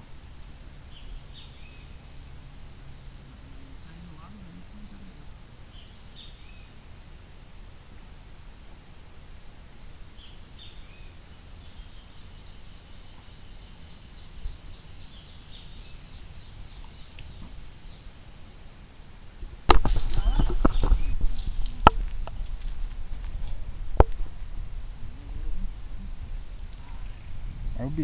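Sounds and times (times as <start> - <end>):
faint bird chirps: 0.0 - 18.9, 20.0 - 22.5, 25.0 - 28.0
wind rumble on microphone: 0.0 - 28.0.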